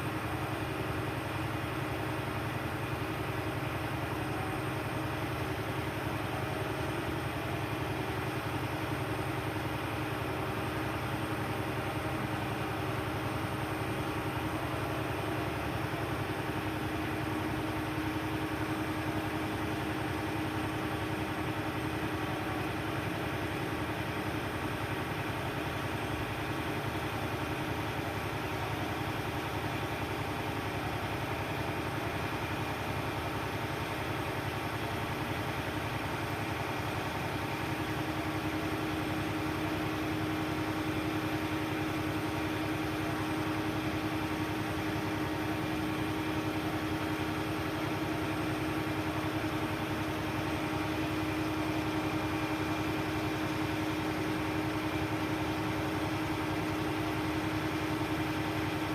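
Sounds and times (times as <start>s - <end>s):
crane engine humming steadily: 0.0s - 58.9s.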